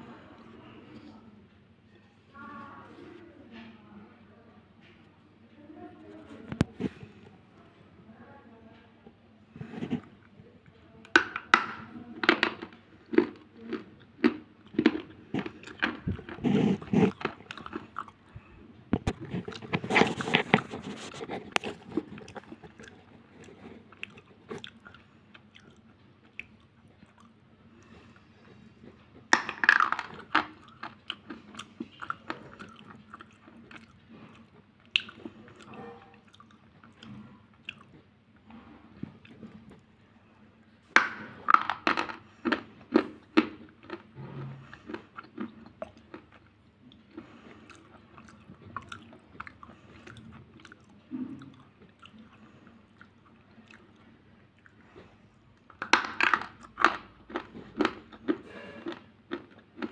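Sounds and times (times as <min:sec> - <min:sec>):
soft chewing: 0:00.0 - 0:04.0, 0:04.8 - 0:59.9.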